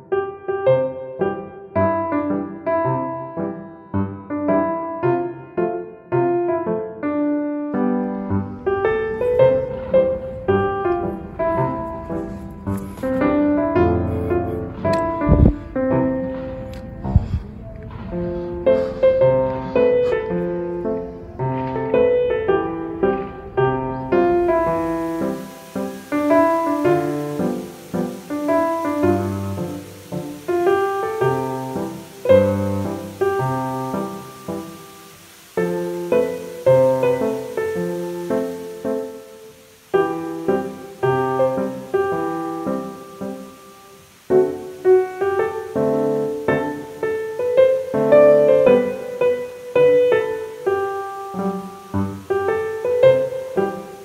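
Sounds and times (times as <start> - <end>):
solo piano piece: 0.0 - 54.0.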